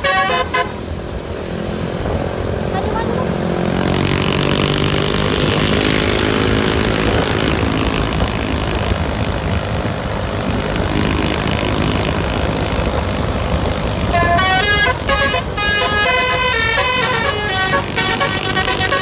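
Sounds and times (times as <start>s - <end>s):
bus engine running: 0.0s - 19.0s
steady rushing noise: 0.0s - 19.0s.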